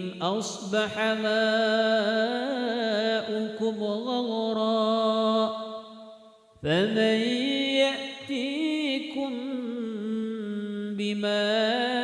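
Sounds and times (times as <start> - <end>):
person chanting melodically: 0.0 - 12.0.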